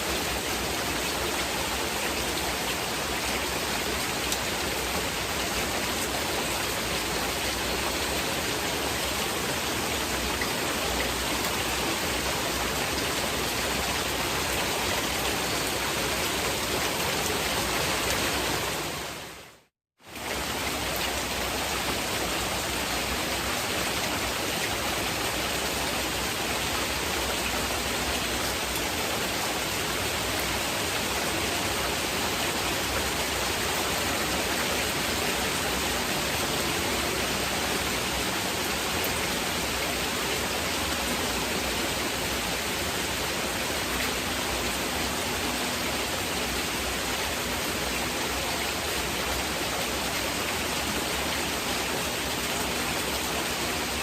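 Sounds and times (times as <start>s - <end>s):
constant hiss: 0.0s - 54.0s
heavy rain: 0.0s - 54.0s.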